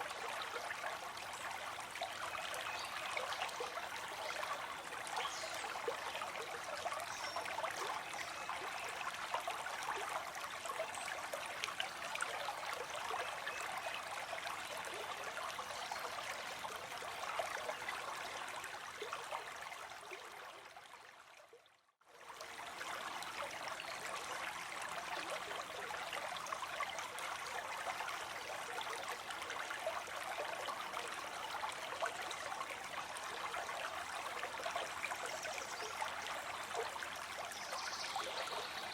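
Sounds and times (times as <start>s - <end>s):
water rushing and trickling: 0.0s - 21.4s, 22.1s - 38.9s.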